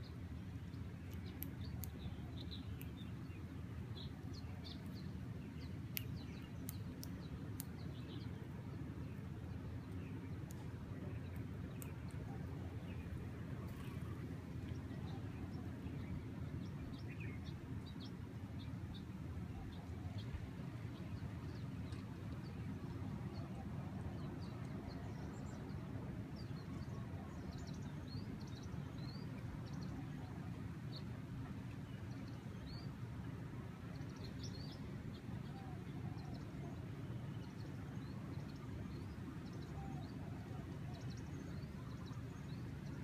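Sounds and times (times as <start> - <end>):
low rumble of breeze: 0.0 - 43.0.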